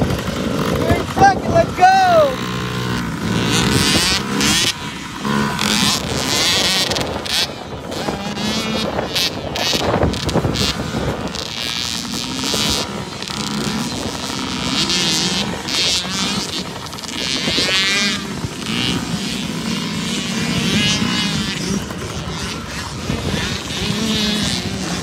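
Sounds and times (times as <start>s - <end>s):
motocross bike engines racing: 0.0s - 25.0s.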